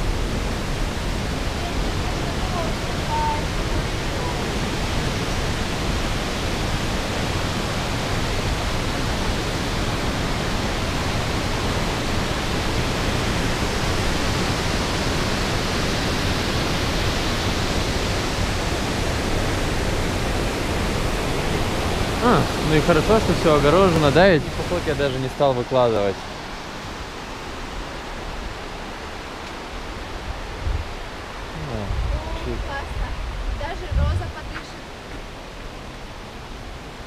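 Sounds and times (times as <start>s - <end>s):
creek water rushing over rocks: 0.0s - 37.0s.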